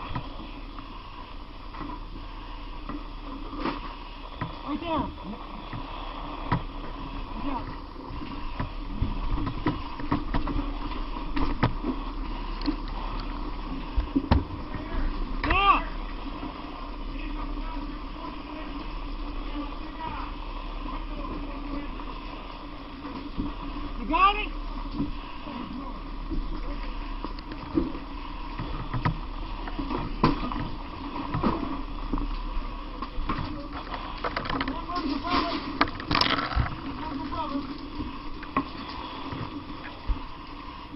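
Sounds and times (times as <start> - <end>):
steady mechanical hum: 0.0 - 40.9.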